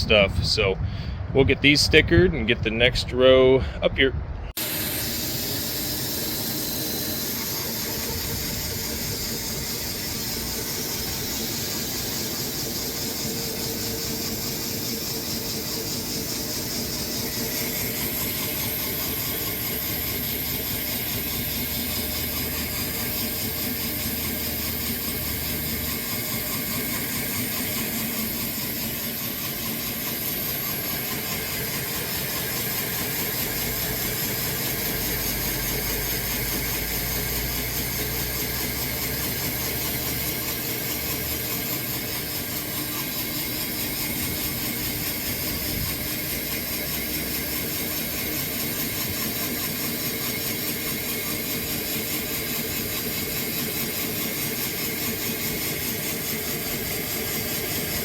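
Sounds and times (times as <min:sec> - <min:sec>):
sawmill cutting a log: 0:04.6 - 0:58.0.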